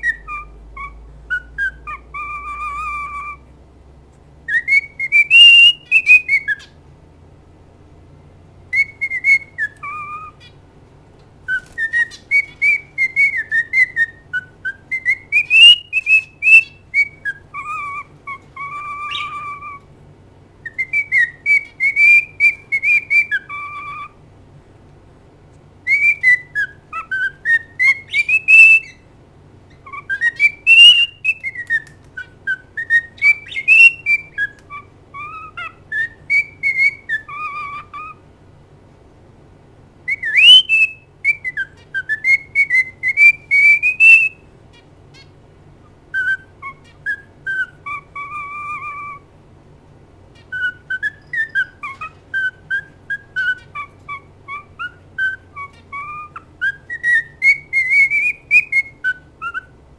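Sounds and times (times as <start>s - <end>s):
cockatiel whistling a song: 0.0s - 3.5s, 4.4s - 6.8s, 8.7s - 10.6s, 11.4s - 19.9s, 20.6s - 24.2s, 25.8s - 29.1s, 29.7s - 38.2s, 40.0s - 45.3s, 46.1s - 49.3s, 50.3s - 59.8s.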